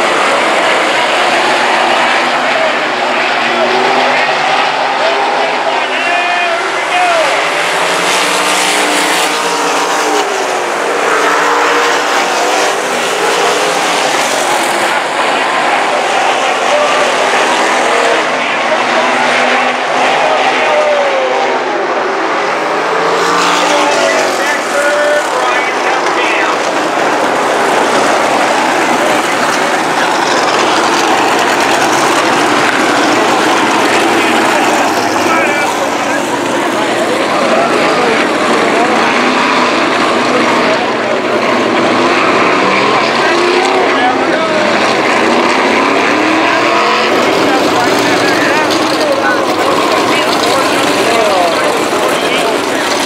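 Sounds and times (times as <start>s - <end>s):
racing car engines passing: 0.0s - 53.0s.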